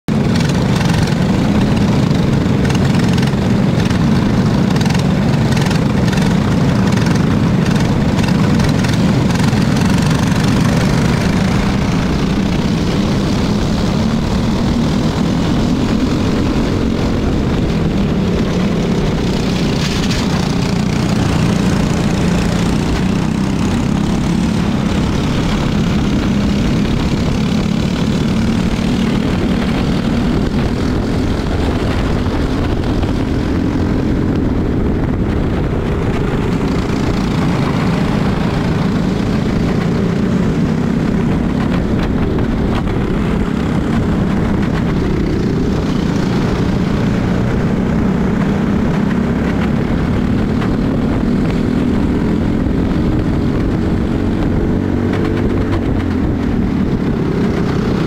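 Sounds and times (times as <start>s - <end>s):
other kart engines: 0.0s - 58.0s
kart engine racing: 0.1s - 58.0s.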